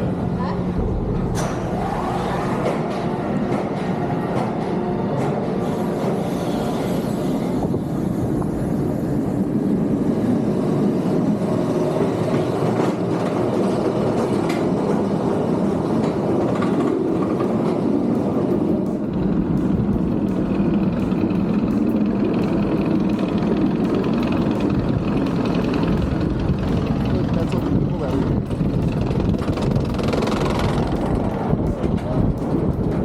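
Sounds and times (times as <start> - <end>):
train rumbling on track: 0.0 - 33.0.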